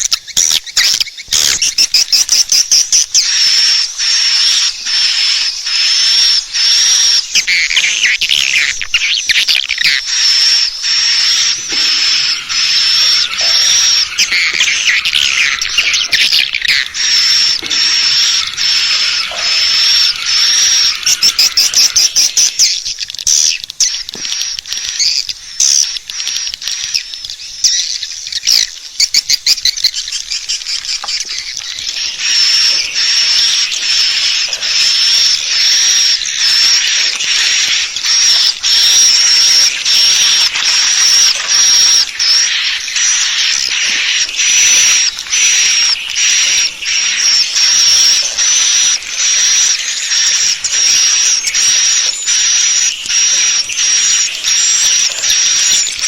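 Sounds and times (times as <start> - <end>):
swiftlets twittering: 0.0 - 56.0
sharp chirp: 0.1 - 24.0, 30.3 - 56.0.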